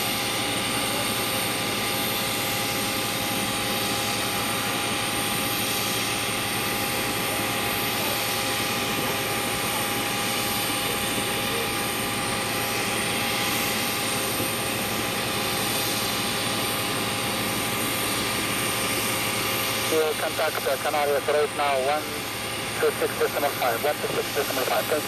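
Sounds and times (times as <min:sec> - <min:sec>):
jet turbine rushing and whining: 0:00.0 - 0:25.0.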